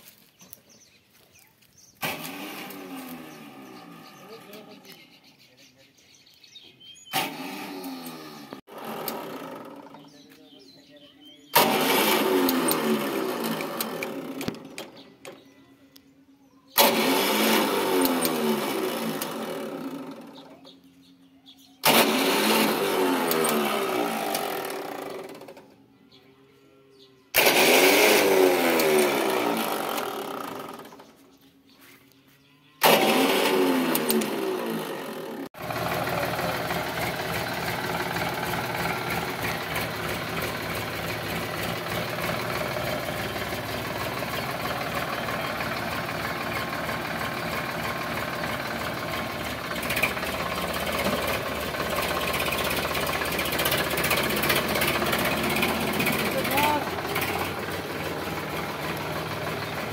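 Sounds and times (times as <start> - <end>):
tractor engine running steadily: 0.0 - 5.0, 6.3 - 16.0, 16.8 - 25.8, 27.4 - 31.4, 32.8 - 59.9
tractor diesel engine starting: 0.0 - 5.4, 6.6 - 15.8, 16.7 - 26.0, 26.9 - 31.5, 32.8 - 59.9.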